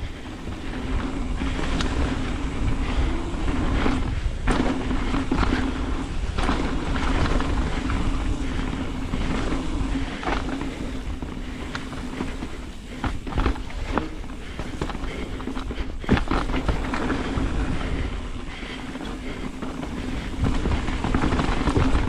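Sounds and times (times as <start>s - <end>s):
bicycle tyre noise: 0.0s - 22.0s
bike knocking and clattering: 0.0s - 22.0s
steady hum: 0.0s - 22.0s
wind noise: 0.0s - 22.0s.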